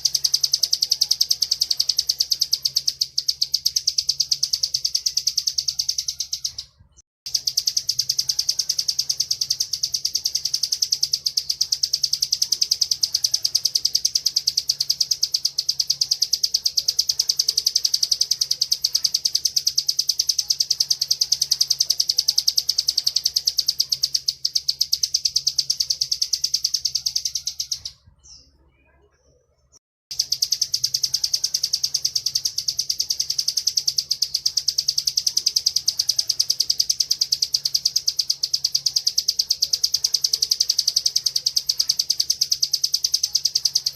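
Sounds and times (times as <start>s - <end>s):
bird rapid high trill: 0.0s - 28.1s, 30.1s - 43.9s.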